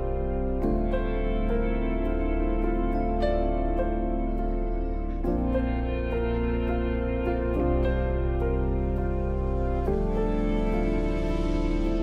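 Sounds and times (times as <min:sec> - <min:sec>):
calm instrumental music: 0:00.0 - 0:12.0.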